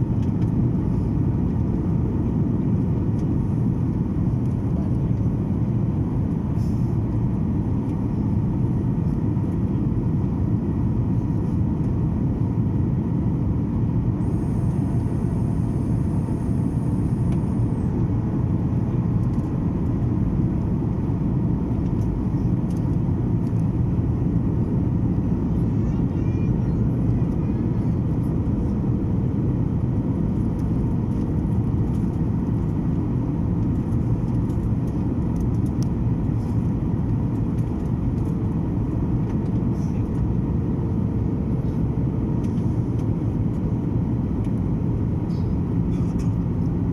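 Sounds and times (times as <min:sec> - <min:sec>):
airliner cabin engine rumble: 0:00.0 - 0:46.9
faint constant hum: 0:00.0 - 0:46.9.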